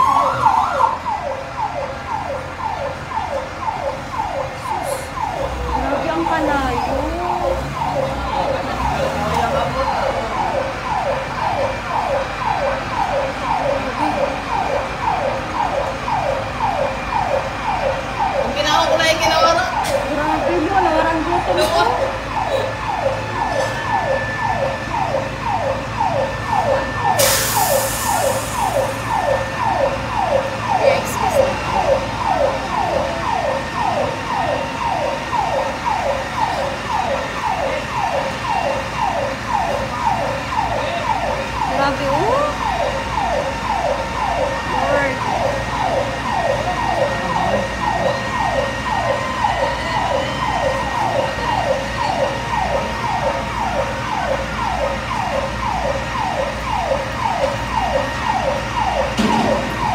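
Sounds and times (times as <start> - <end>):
fire truck siren: 0.0 - 59.9.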